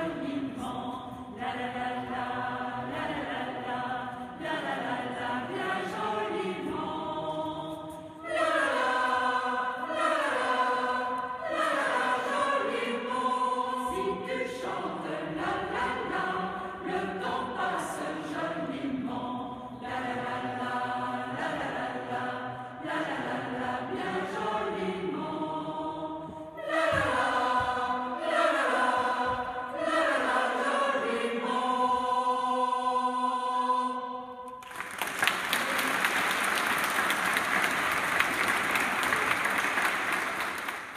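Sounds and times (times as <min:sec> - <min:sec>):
mixed choir singing: 0:00.0 - 0:40.9.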